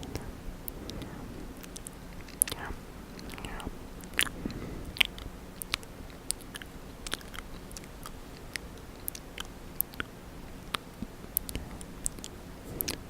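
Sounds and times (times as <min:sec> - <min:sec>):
wet mouth clicks and smacks: 0:00.7 - 0:13.0.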